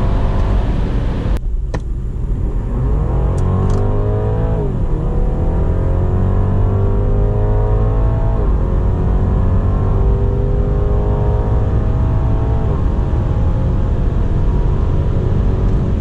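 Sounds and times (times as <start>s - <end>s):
car engine accelerating: 0.0s - 1.4s, 2.0s - 16.0s.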